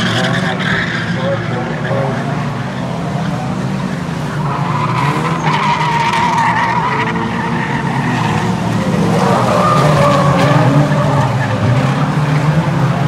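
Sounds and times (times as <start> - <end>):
racing car engines at high revs: 0.0 - 13.0.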